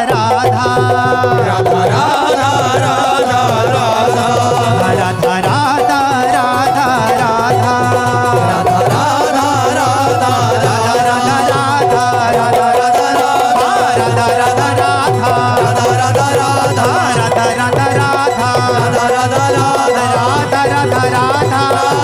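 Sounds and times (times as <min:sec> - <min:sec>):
people singing: 0:00.0 - 0:22.0.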